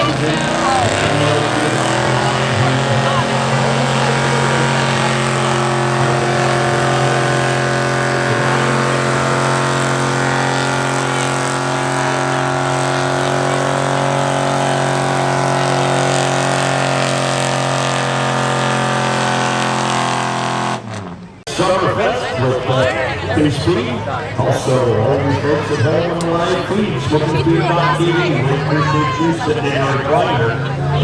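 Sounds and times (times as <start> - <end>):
truck engine running hard: 0.0 - 31.0.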